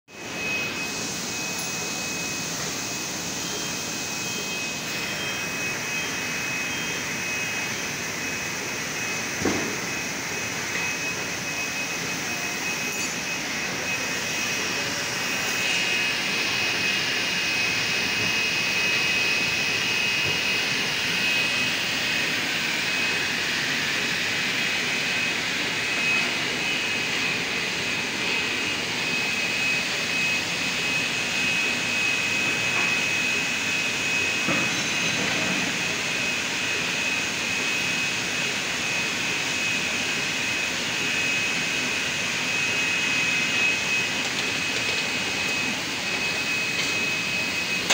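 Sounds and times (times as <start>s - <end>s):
conveyor machine noise: 0.1s - 47.9s
high motor whine: 0.1s - 47.9s.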